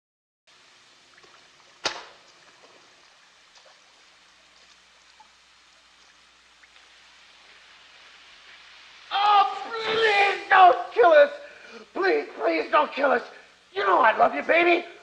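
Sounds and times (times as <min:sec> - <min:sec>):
water dripping: 0:00.5 - 0:13.8.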